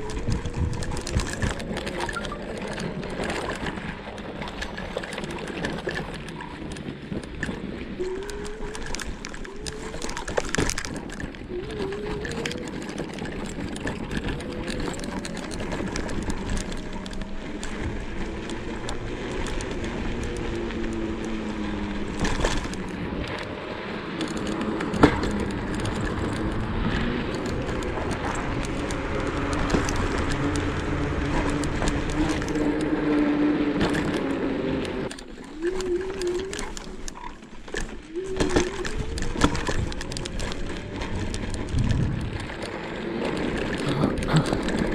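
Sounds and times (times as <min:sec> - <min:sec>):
tyre and frame rattle: 0:00.0 - 0:23.3, 0:24.1 - 0:44.9
electric scooter motor whine: 0:00.0 - 0:44.9.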